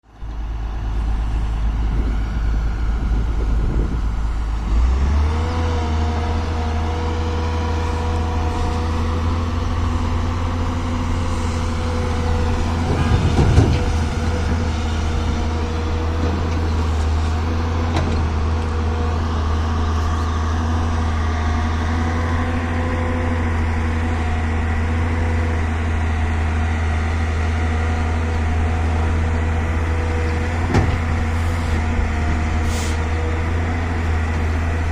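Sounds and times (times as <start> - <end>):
excavator engine and hydraulics: 0.0 - 34.9.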